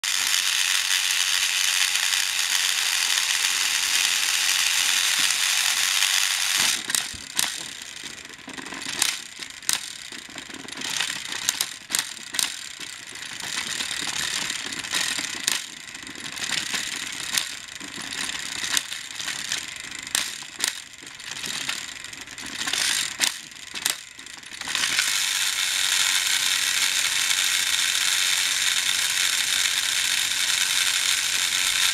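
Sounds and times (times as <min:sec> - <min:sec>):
toy train motors whirring: 0:00.0 - 0:31.9
toy trains clicking and clattering: 0:00.0 - 0:31.9.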